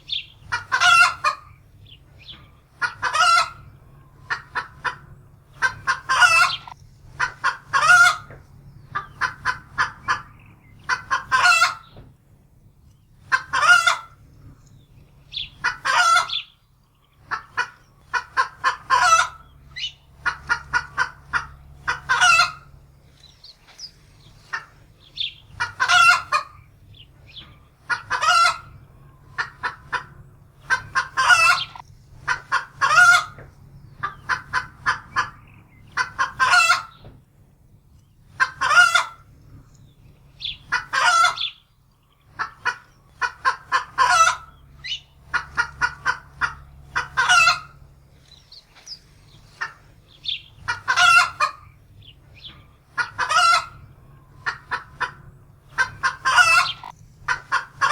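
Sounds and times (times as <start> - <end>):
hen cackling: 0.0 - 12.0, 13.2 - 14.2, 15.2 - 16.6, 17.2 - 37.1, 38.2 - 39.6, 40.3 - 57.9.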